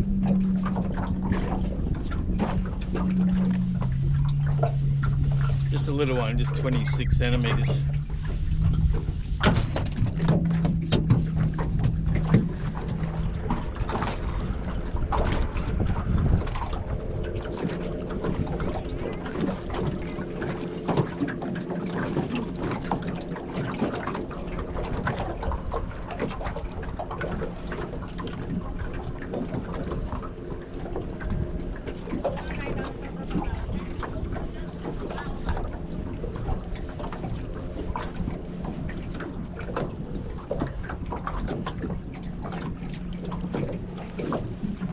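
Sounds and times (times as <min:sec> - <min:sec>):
water lapping: 0:00.0 - 0:44.9
wind buffeting microphone: 0:00.0 - 0:44.9.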